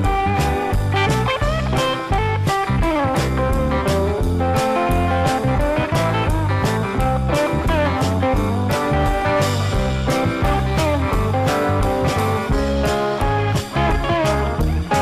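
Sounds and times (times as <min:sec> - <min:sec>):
guitar music with beat and bass: 0:00.0 - 0:15.0.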